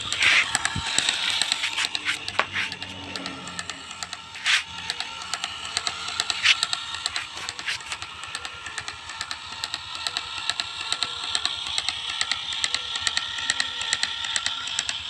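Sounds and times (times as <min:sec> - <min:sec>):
small motor whining and ticking: 0:00.0 - 0:15.0.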